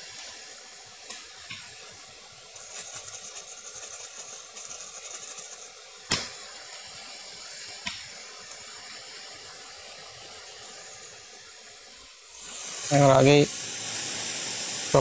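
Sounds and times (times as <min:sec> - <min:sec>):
hot-air station hissing: 0:00.0 - 0:15.0.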